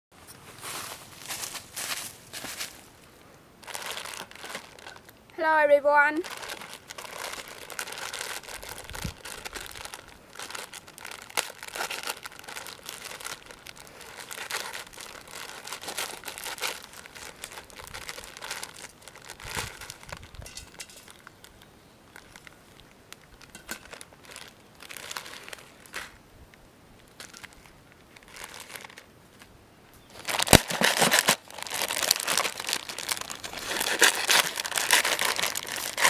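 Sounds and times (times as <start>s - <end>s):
plastic packets crinkling: 3.6s - 26.2s, 27.0s - 29.1s, 30.1s - 36.0s.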